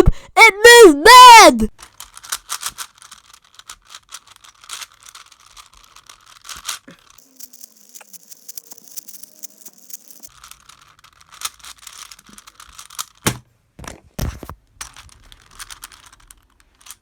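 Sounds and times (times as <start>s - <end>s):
puzzle cube clicking as twisted: 1.8s - 13.3s, 14.8s - 17.0s.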